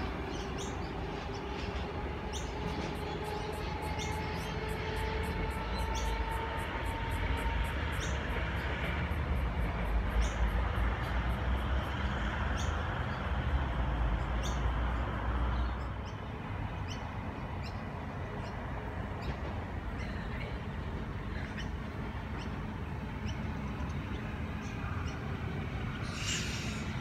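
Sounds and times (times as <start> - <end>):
approaching electric train: 0.0 - 27.0.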